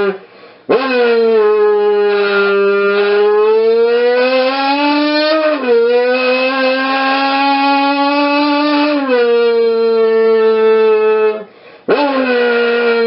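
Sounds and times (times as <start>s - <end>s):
mouth buzzing into soda can: 0.0s - 13.0s.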